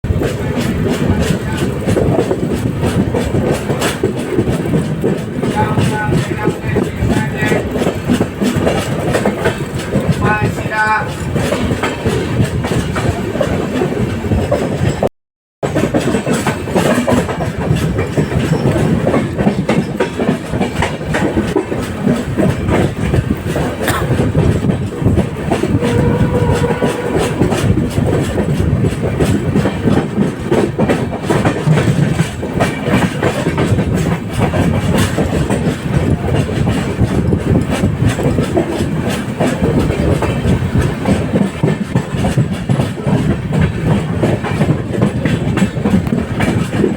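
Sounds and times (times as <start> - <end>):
train wheels clattering on rails: 0.0 - 46.9.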